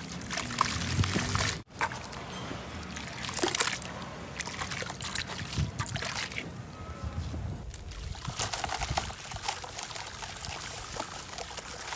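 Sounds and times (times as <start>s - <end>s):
water sloshing and trickling: 0.0s - 6.6s, 7.6s - 11.9s.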